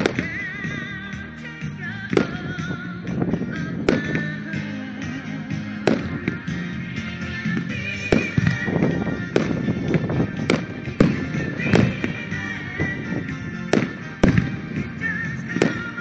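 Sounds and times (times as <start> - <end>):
disco music: 0.0 - 16.0.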